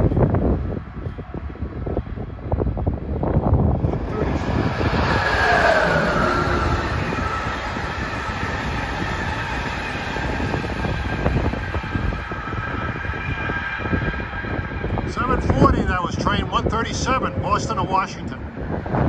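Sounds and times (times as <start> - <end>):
train wheels rumbling on rails: 0.0 - 19.0
high whining tones: 3.5 - 19.0.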